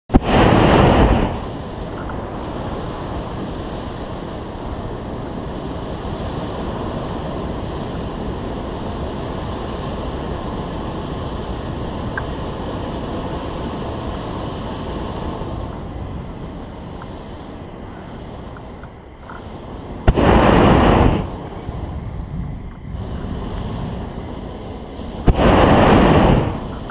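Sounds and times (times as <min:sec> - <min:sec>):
propane burner firing: 0:00.1 - 0:26.9
wind noise on microphone: 0:00.1 - 0:26.9.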